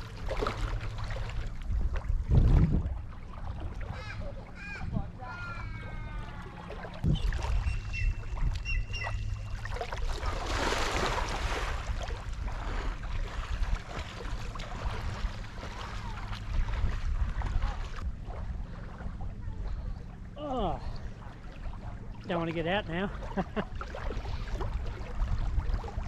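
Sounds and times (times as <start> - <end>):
wind rumble on microphone: 0.0 - 5.3, 6.0 - 20.4, 23.2 - 26.0
water splashing from swimming: 0.0 - 26.0.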